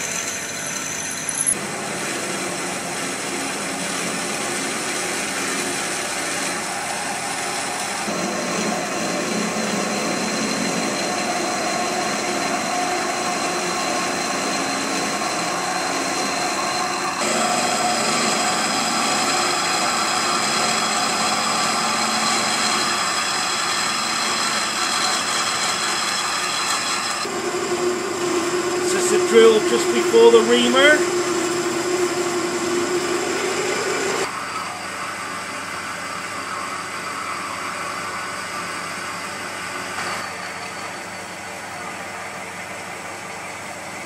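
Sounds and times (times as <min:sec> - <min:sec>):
metal lathe drilling: 0:00.0 - 0:42.1.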